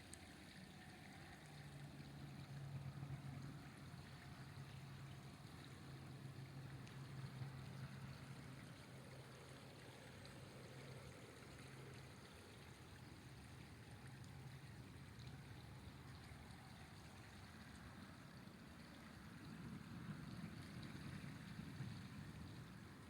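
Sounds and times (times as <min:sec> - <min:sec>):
river flowing: 0:00.0 - 0:23.0.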